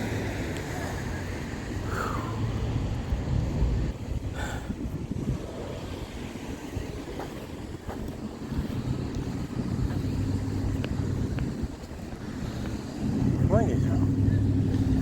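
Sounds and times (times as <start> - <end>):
low motor hum: 0.0 - 15.0
wind rumbling on microphone: 0.0 - 15.0.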